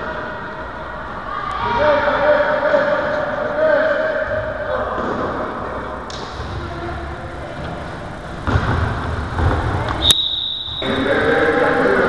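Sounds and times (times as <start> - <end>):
echoing sports hall rumble: 0.0 - 12.0.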